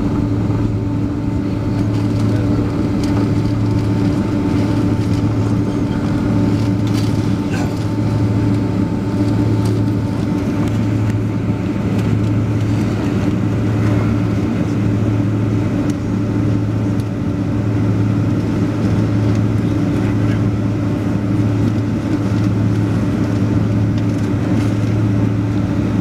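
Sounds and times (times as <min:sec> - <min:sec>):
airplane cabin engine drone: 0:00.0 - 0:26.0.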